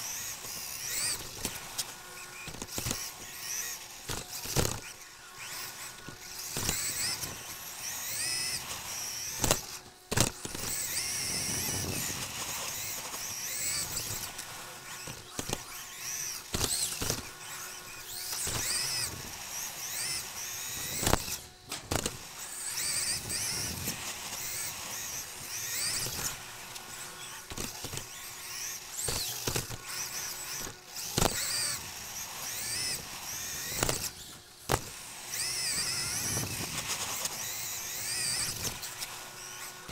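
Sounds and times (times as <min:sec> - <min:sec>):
electric motor and gear whine: 0:00.0 - 0:39.9
sharp knocks from landings: 0:00.2 - 0:39.0.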